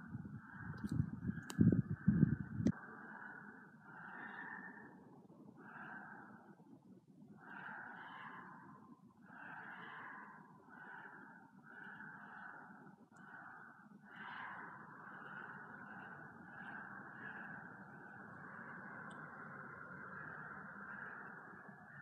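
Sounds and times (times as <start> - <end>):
person breathing hard: 2.7 - 6.6, 7.4 - 22.0.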